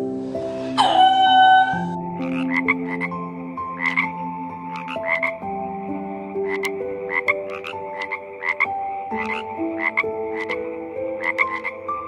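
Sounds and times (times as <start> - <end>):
frog croaking: 0.8 - 12.0.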